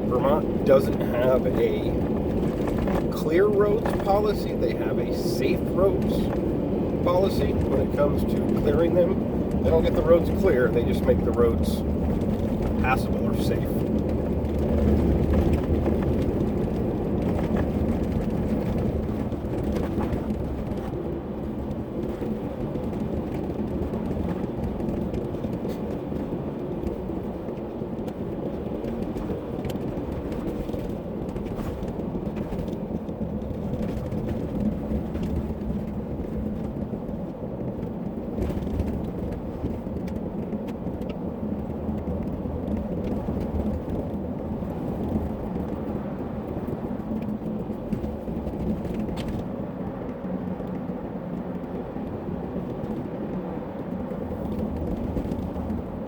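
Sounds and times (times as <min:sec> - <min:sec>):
car driving on snowy road: 0:00.0 - 0:56.0.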